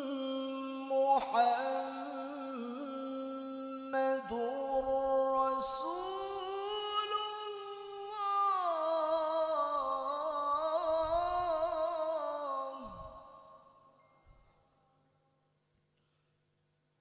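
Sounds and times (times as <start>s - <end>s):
man reciting in melodic chant: 0.0s - 13.7s.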